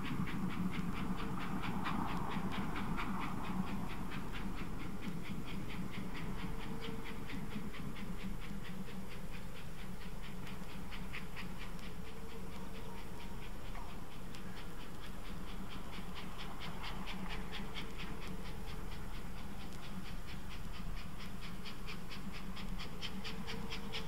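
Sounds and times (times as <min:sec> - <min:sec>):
steam locomotive chuffing: 0:00.0 - 0:24.0.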